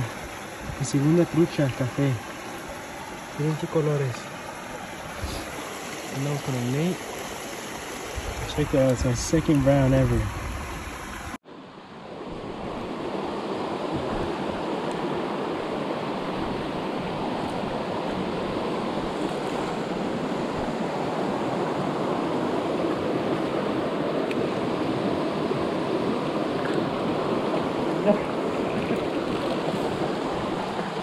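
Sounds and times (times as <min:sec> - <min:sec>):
creek rushing over stones: 0:00.0 - 0:11.4, 0:12.3 - 0:31.0.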